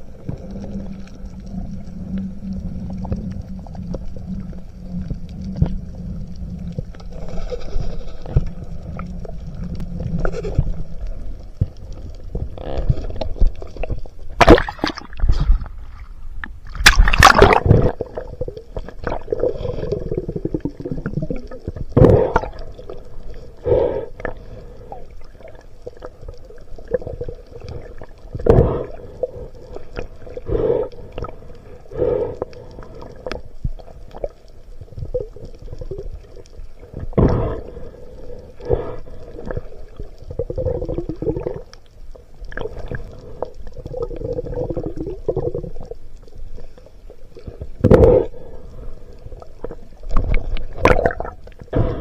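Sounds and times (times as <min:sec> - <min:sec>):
faint steady hum: 0:00.0 - 0:52.0
water sloshing underwater: 0:00.0 - 0:52.0.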